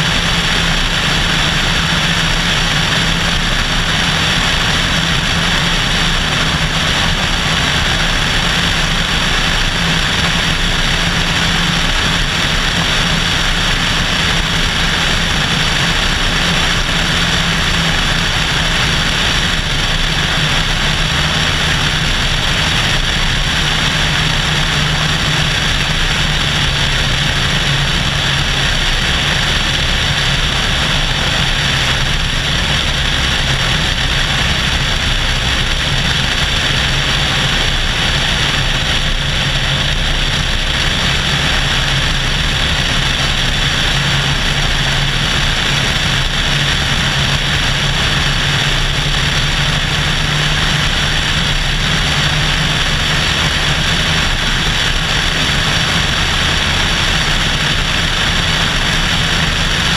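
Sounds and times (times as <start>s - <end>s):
plane engine and propeller: 0.0s - 59.9s
rush of airflow: 0.0s - 59.9s.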